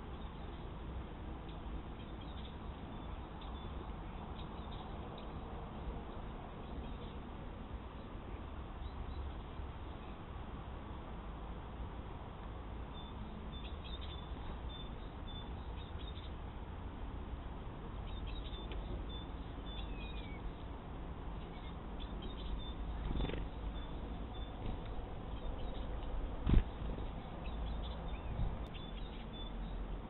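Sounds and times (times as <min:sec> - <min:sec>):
small birds chirping: 0:00.0 - 0:00.8, 0:01.4 - 0:10.4, 0:12.8 - 0:16.7, 0:17.9 - 0:30.0
microphone hiss: 0:00.0 - 0:30.0.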